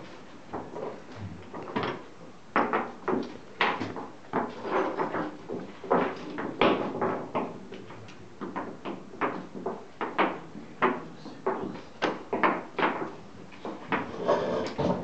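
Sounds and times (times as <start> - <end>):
chess pieces knocking on boards: 1.6 - 15.0.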